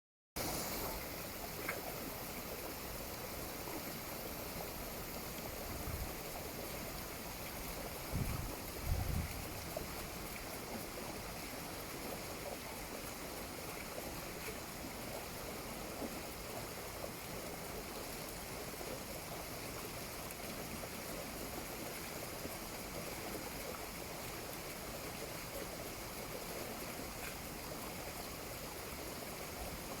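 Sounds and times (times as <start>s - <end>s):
running and splashing water: 0.4s - 30.0s.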